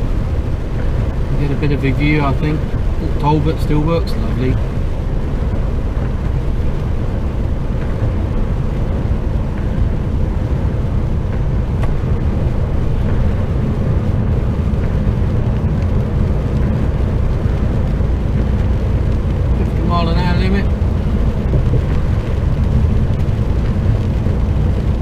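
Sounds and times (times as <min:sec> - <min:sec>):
truck diesel engine cruising: 0:00.0 - 0:25.0
tyre and road noise: 0:00.0 - 0:25.0.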